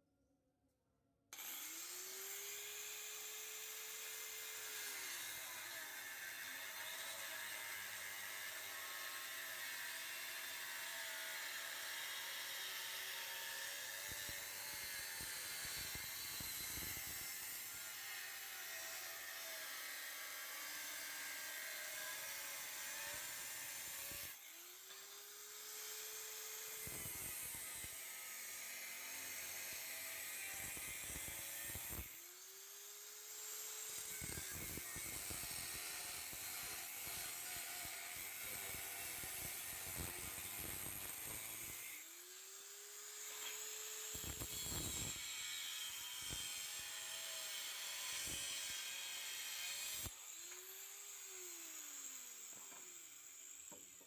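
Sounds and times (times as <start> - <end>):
angle grinder grinding steel: 1.4 - 54.0.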